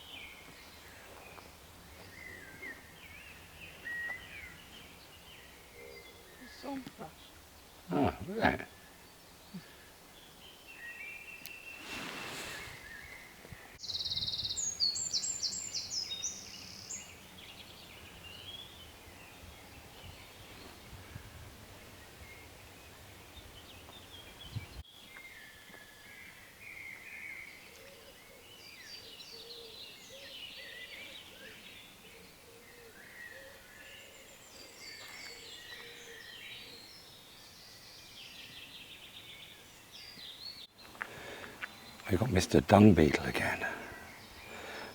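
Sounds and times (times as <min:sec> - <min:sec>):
small birds singing and calling: 0:00.0 - 0:44.9.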